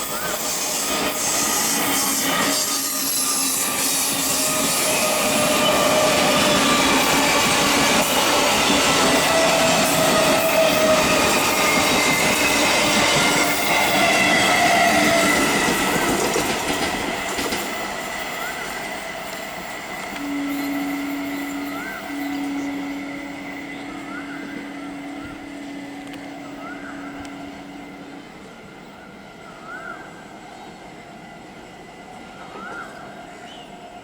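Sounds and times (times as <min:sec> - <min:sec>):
wheels squealing: 0:00.0 - 0:27.9
electric train passing on rails: 0:00.0 - 0:34.0.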